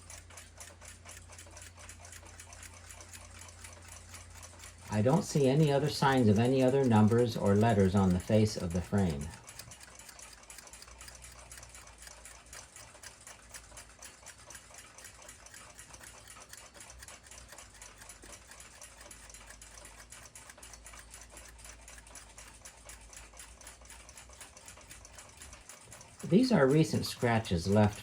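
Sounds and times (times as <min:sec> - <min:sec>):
clock ticking: 0:00.0 - 0:28.0.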